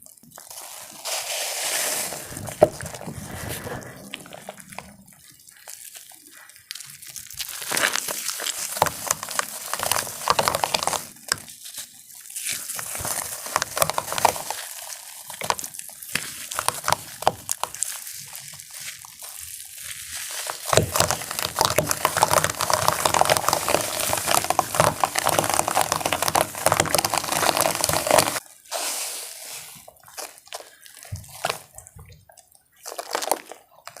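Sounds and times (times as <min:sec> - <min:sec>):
wet chalk crunching: 0:00.0 - 0:34.0.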